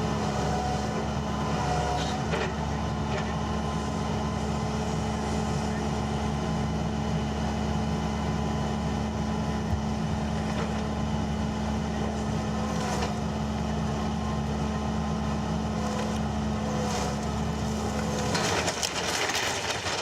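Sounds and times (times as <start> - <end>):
demolition machine engine running: 0.0 - 20.0.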